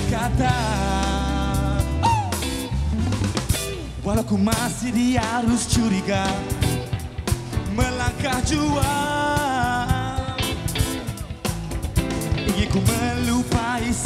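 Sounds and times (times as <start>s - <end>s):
man singing: 0.0s - 2.7s, 3.9s - 11.5s, 12.3s - 14.0s
live rock band playing: 0.0s - 14.0s.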